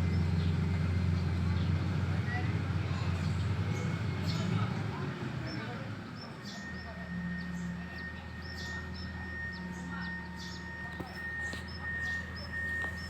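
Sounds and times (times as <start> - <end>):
low engine hum: 0.0 - 13.0
small birds chirping: 0.0 - 13.0.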